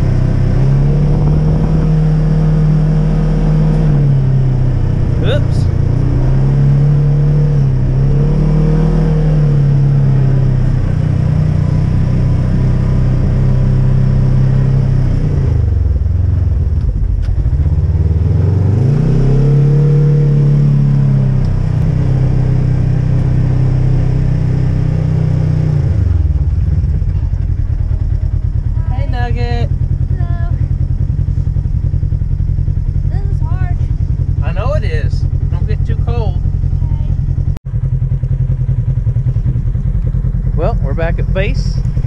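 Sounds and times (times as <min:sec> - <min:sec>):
side-by-side engine revving: 0:00.0 - 0:42.0.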